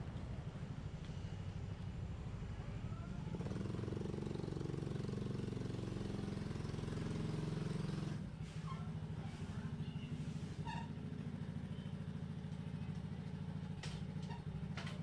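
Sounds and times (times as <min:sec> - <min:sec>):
motorcycle engine running: 0:00.0 - 0:08.4, 0:09.0 - 0:15.0.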